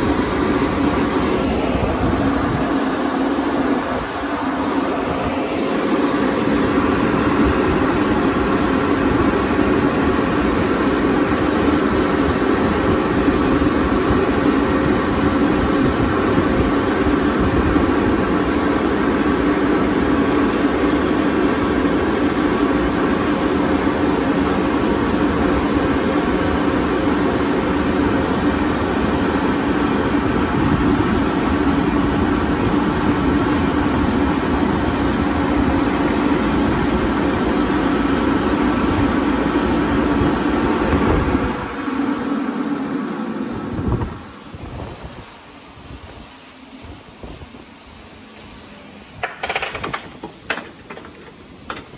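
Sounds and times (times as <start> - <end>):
rush of air from blowers: 0.0 - 51.9.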